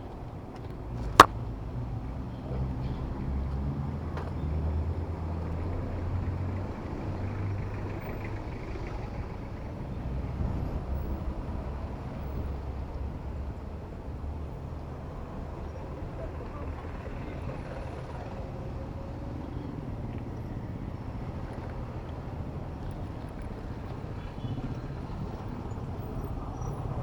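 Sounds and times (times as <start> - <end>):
traffic engines rumbling: 0.0 - 27.0.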